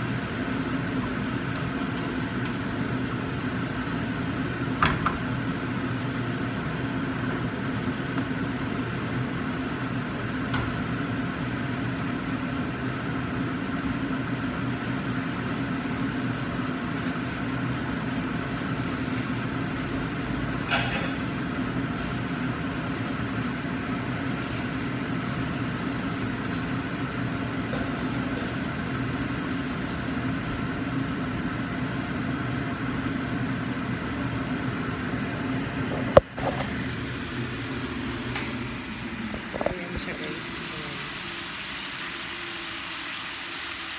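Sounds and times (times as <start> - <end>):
exhaust fan hum: 0.0 - 43.9.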